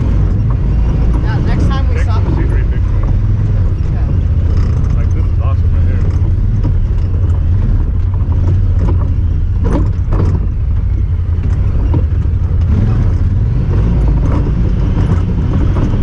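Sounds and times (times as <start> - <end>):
knocks and rattles: 0.0 - 16.0
vehicle engine droning: 0.0 - 16.0.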